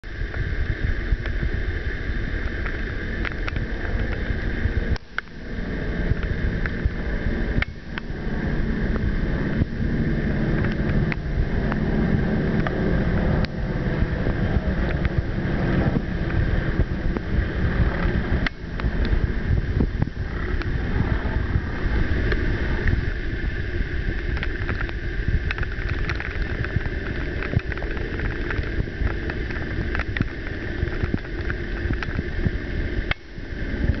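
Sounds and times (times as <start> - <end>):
propeller aircraft flying overhead: 0.0 - 34.0
wind on microphone: 0.0 - 34.0.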